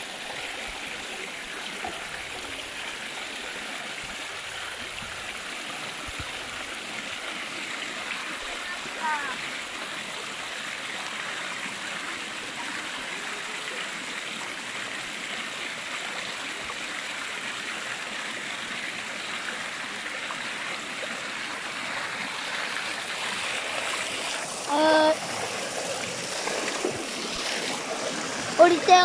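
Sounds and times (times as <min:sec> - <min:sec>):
stream flowing over stones: 0:00.0 - 0:29.0.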